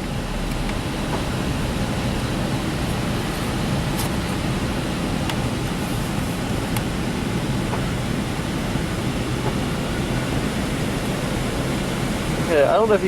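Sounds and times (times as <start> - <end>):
heater blower fan rushing air: 0.0 - 13.0.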